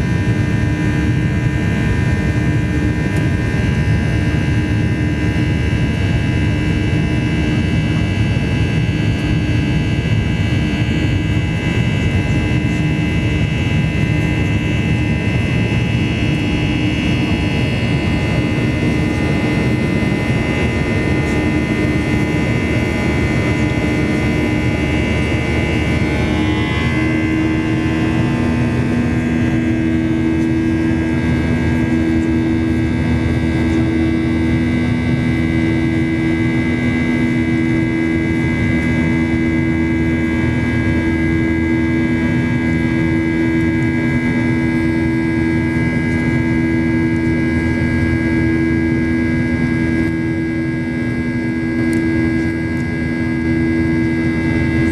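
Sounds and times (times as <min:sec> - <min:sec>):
jet engines heard in cabin: 0:00.0 - 0:54.9.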